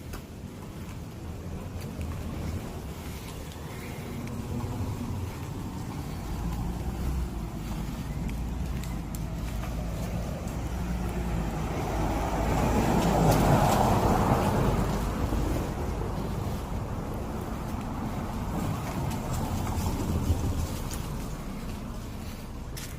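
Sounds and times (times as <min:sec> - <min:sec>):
road vehicle passing by: 0:00.0 - 0:22.9
steady low rumble: 0:00.0 - 0:22.9.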